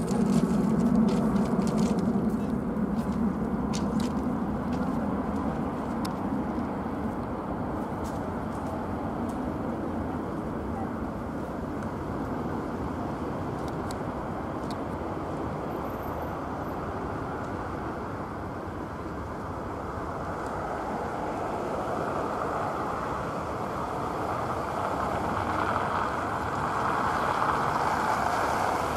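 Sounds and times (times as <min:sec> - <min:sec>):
jet engine noise: 0:00.0 - 0:28.9.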